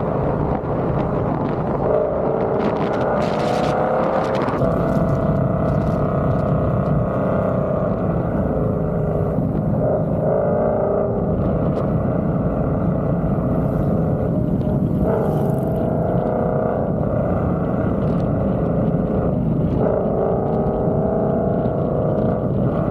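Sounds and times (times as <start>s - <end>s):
car engine droning: 0.0s - 22.9s.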